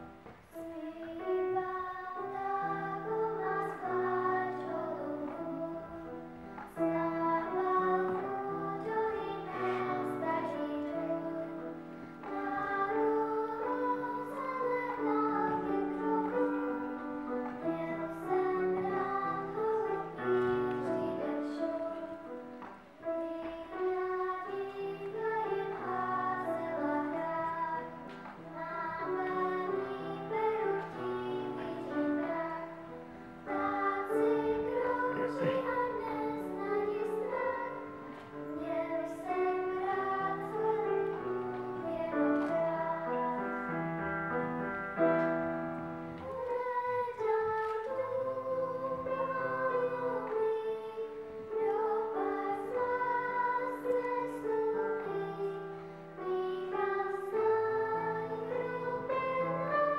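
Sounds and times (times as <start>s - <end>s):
girls singing together: 0.0s - 59.9s.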